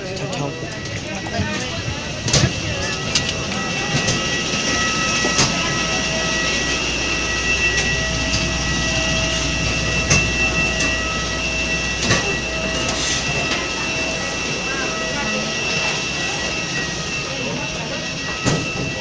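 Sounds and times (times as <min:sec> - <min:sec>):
aircraft cabin rumble: 0:00.0 - 0:19.0
multi-pitched whine: 0:00.0 - 0:19.0.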